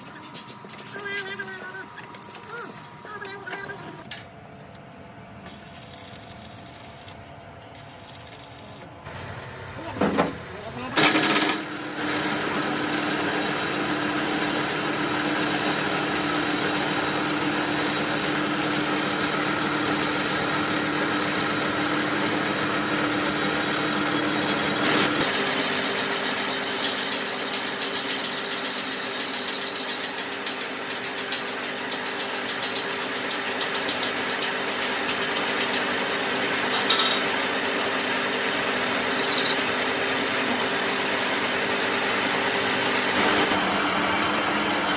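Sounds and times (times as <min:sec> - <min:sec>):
machine tool running: 0:05.5 - 0:33.1, 0:33.7 - 0:44.9.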